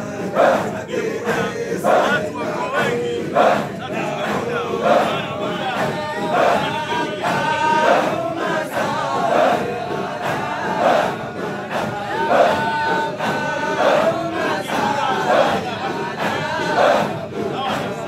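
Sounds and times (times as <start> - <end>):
men chanting in rhythmic chorus: 0.0 - 18.0.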